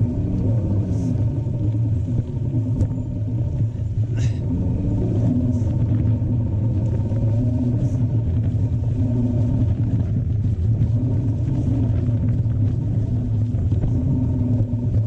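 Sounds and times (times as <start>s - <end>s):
bike wheel hum: 0.0s - 15.0s
wind rumble: 0.0s - 15.0s.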